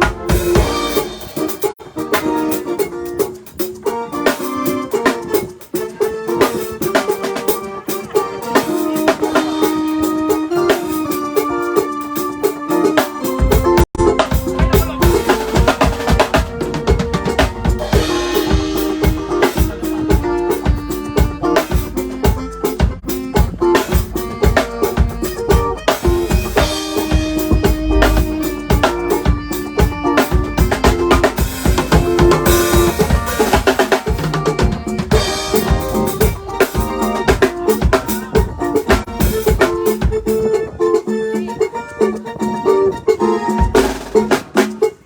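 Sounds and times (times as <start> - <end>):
snare and bass drum beat: 0.0 - 11.6, 12.5 - 40.4
live band playing: 0.0 - 45.0.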